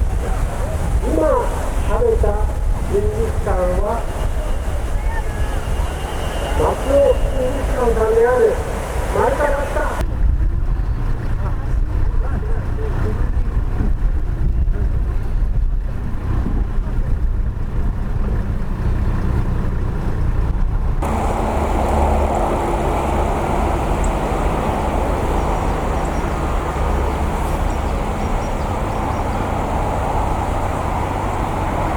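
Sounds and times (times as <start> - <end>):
low outdoor rumble: 0.0 - 31.9
wind on microphone: 0.0 - 31.9.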